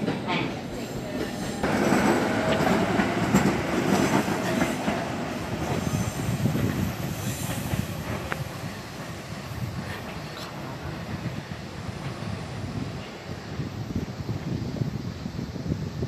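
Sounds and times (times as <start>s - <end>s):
train wheels running on rails: 0.0s - 16.0s.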